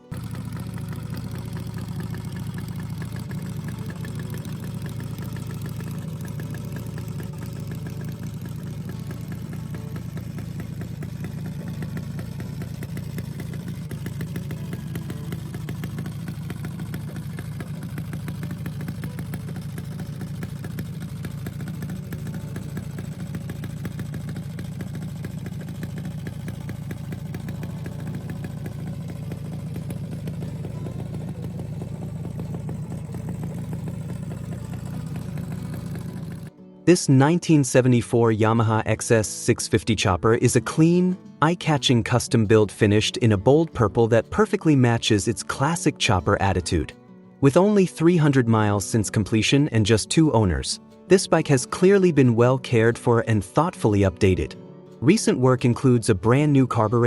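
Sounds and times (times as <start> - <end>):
motorcycle engine idling: 0.0 - 36.6, 40.0 - 57.0.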